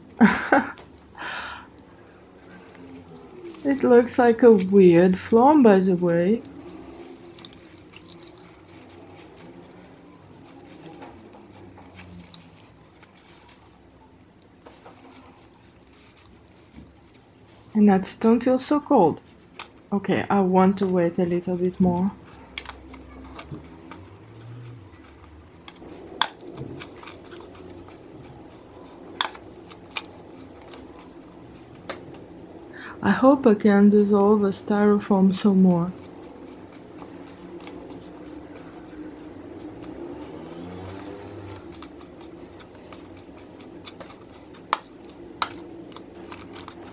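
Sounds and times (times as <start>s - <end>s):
slime squishing and crackling: 2.0s - 46.9s
spoon scraping styrofoam: 2.4s - 46.9s.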